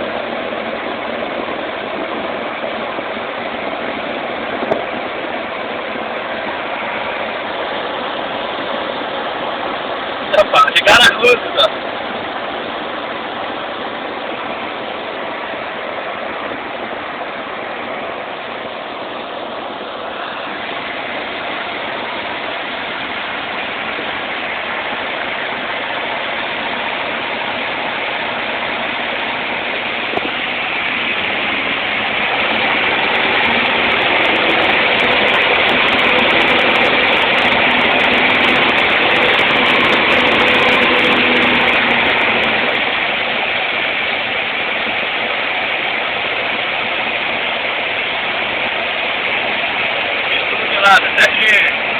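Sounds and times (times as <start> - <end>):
aircraft cabin engine noise: 0.0 - 51.9.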